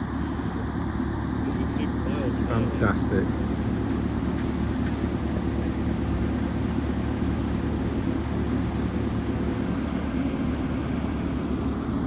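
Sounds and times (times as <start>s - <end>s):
diesel engine under hydraulic load: 0.0s - 12.0s.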